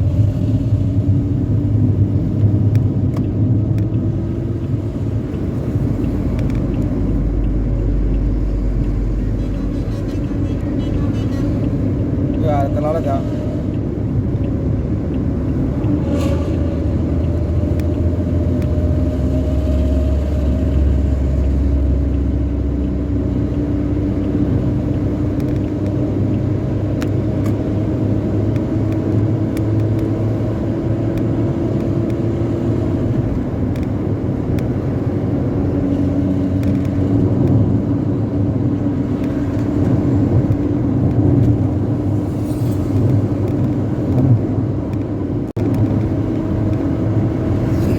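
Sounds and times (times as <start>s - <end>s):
bus engine low rumble: 0.0s - 47.9s.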